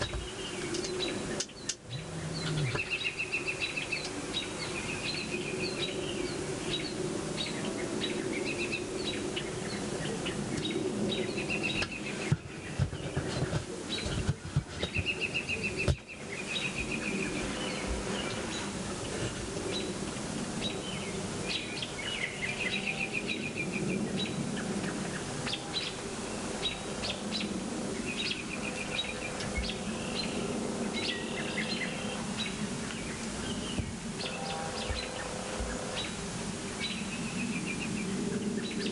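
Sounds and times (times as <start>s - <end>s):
birds chirping and trilling: 0.0s - 38.9s
steady outdoor noise: 0.0s - 38.9s.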